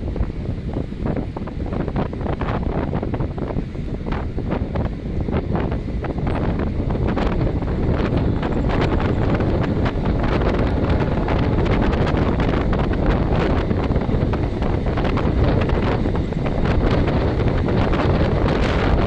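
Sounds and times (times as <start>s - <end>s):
air rushing over microphone: 0.0s - 19.0s
train running gear rumble: 0.0s - 19.0s
wheels clicking on rails: 0.0s - 19.0s.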